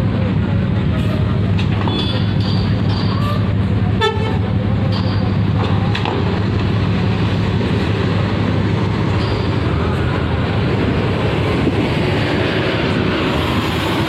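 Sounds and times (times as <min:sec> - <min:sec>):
diesel bus engines droning: 0:00.0 - 0:14.0.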